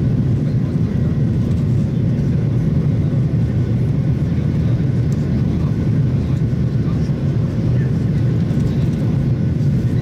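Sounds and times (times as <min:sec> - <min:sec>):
airliner cabin engine roar: 0:00.0 - 0:10.0.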